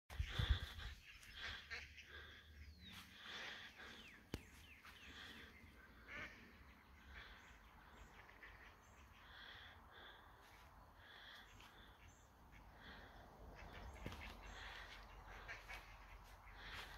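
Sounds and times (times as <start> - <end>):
ducks quacking: 0.1 - 16.9
small birds chirping: 0.1 - 16.9.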